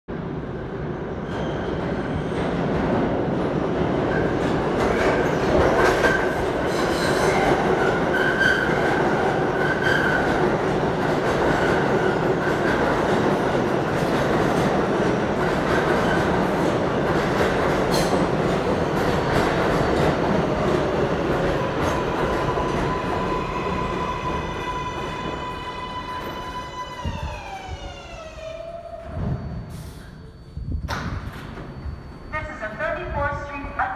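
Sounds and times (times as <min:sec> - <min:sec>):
subway train rumble: 0:00.1 - 0:33.9.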